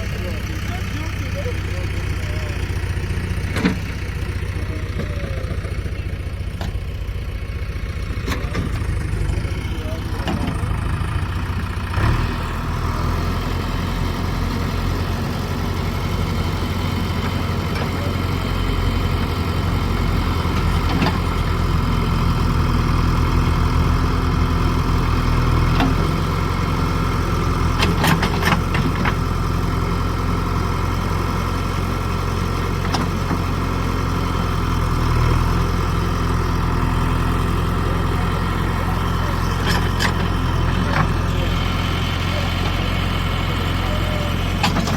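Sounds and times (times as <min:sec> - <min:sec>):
engine running at low revs: 0:00.0 - 0:44.9.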